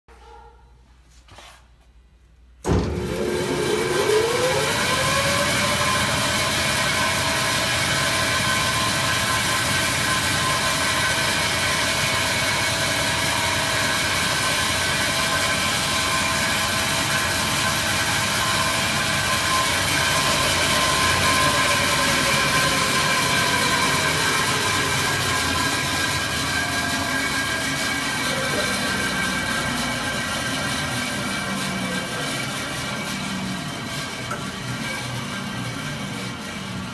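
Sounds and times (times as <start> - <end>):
band saw whining: 2.6 - 36.9.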